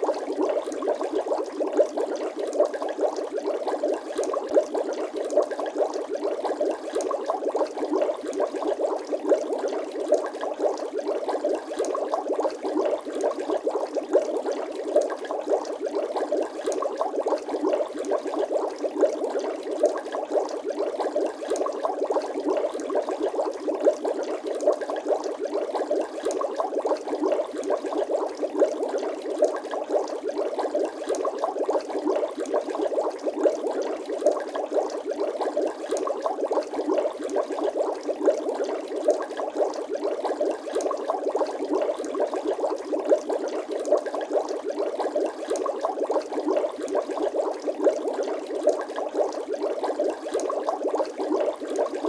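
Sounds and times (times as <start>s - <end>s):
water bubbling: 0.0s - 52.0s.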